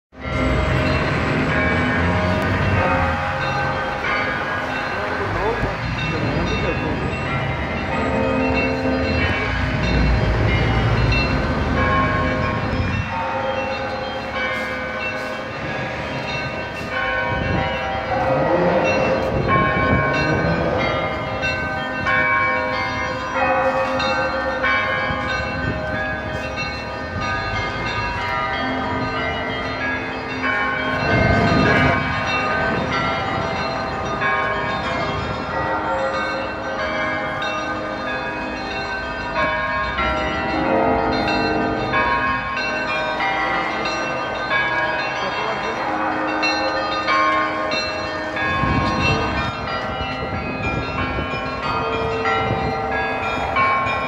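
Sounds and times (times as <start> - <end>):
church bells pealing: 0.1 - 54.0
street traffic: 0.1 - 54.0.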